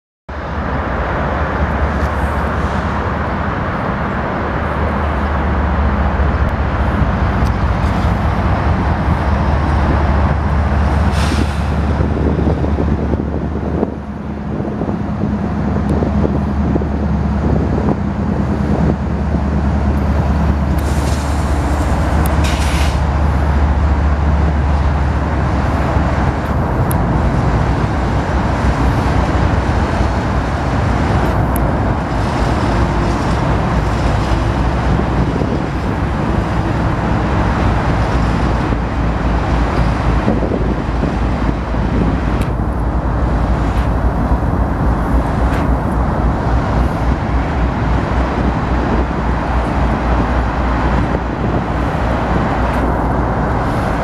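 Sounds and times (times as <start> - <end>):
locomotive engine drone: 0.3 - 54.0.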